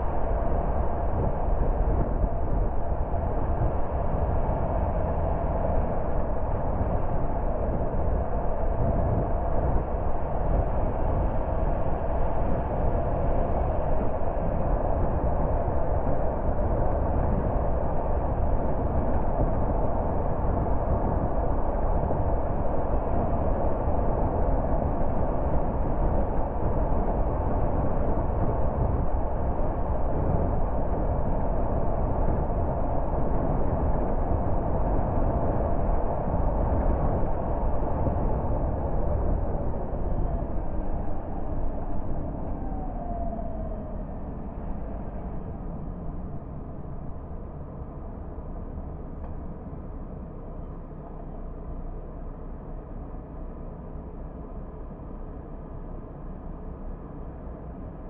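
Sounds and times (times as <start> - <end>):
low car engine hum: 0.0 - 58.0
tyre and wind road noise: 0.0 - 58.0.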